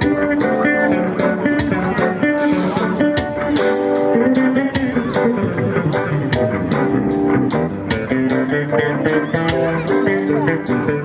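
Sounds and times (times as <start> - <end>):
electric guitar melody: 0.0 - 11.0
reggae band playing: 0.0 - 11.0.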